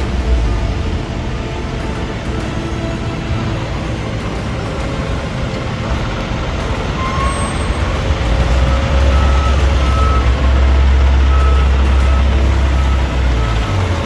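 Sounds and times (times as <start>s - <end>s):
heavy vehicle engine rumble: 0.0s - 14.0s.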